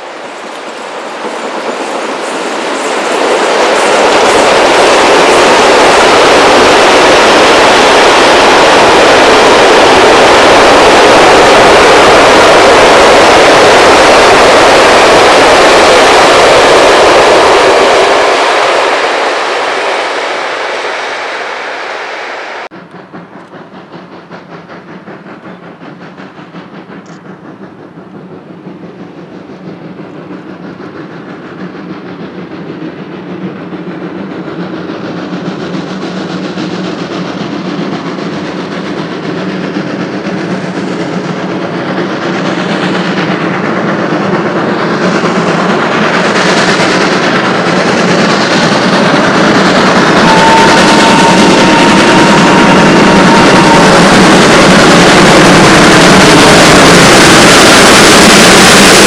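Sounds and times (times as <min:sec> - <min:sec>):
distant steam locomotive beat: 0:00.0 - 0:59.0.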